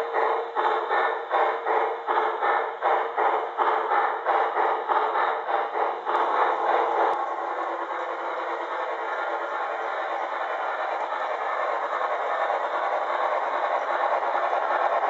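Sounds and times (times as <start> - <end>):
model train steam chuffs: 0.0 - 15.0.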